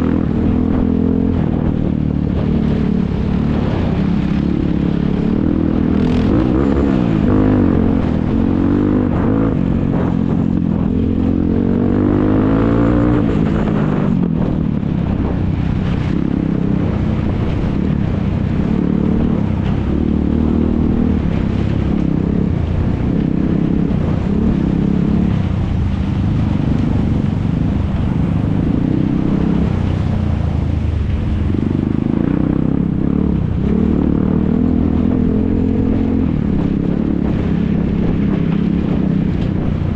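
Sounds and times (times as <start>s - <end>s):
quad bike engines revving: 0.0s - 39.9s.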